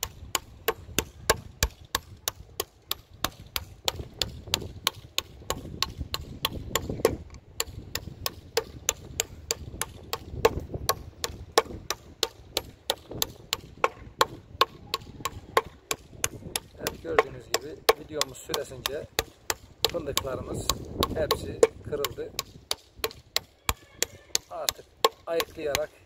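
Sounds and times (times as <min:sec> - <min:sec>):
hammer cracking nuts: 0:00.0 - 0:23.5, 0:24.3 - 0:26.0.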